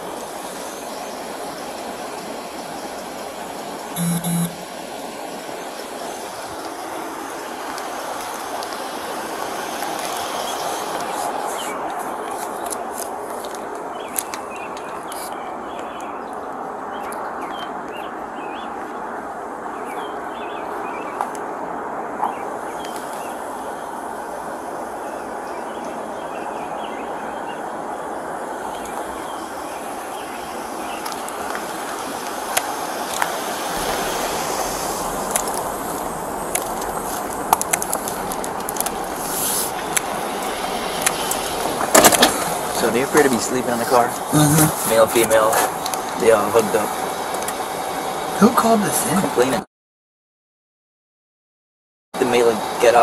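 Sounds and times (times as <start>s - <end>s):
steady rushing noise: 0.0s - 49.6s.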